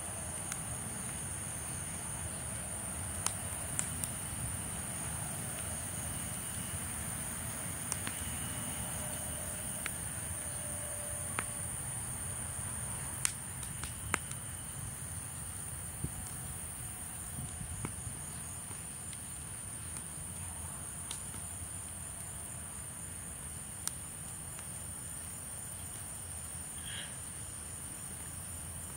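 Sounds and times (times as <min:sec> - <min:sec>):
wood fire crackling: 0:00.0 - 0:26.3
crickets chirring: 0:00.0 - 0:28.9.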